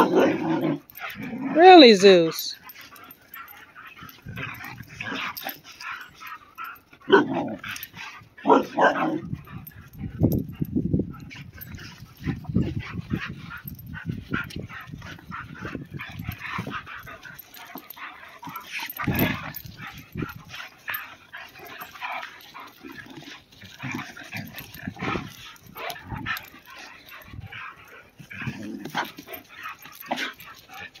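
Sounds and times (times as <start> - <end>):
dogs barking and yipping: 0.0 - 31.0.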